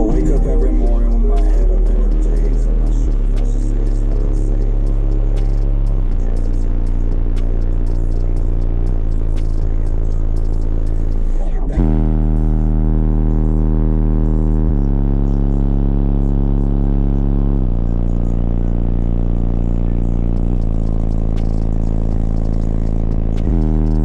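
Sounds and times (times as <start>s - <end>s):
subwoofers playing loud bass notes: 0.0s - 24.0s.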